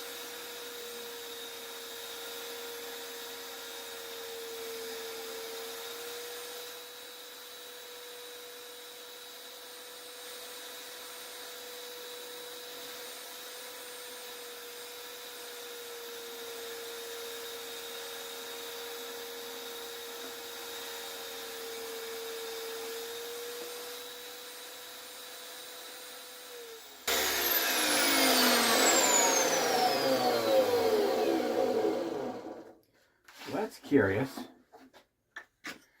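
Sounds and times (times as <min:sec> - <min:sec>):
table saw whining: 0:00.0 - 0:32.8.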